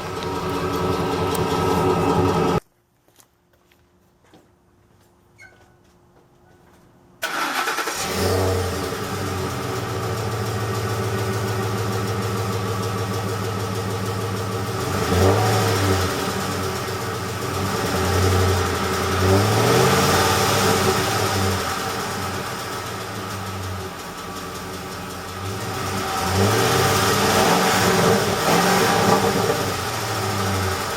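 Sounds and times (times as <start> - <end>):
car engine starting and revving: 0.0 - 2.6, 7.2 - 30.9
engine ticking: 0.0 - 2.6, 7.3 - 30.9.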